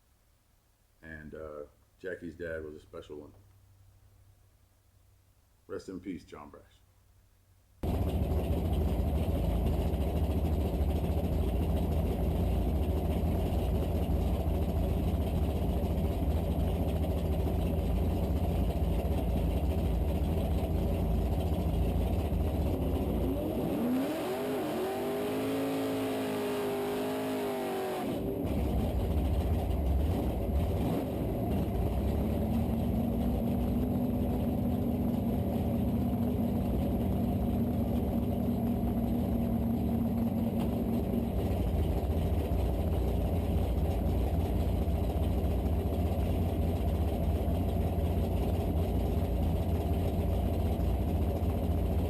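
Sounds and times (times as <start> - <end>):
car engine rumbling and revving: 7.8 - 52.0.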